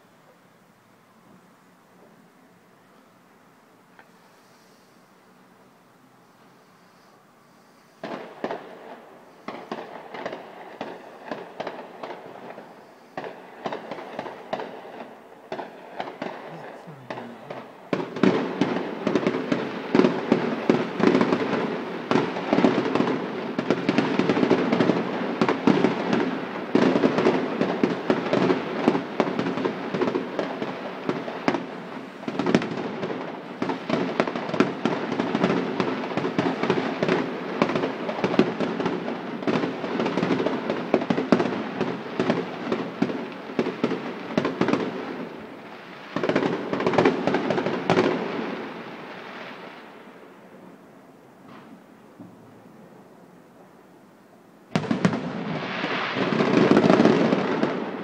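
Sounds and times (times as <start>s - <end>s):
fireworks bangs and crackles: 7.9s - 50.8s, 51.4s - 53.0s, 54.7s - 58.0s.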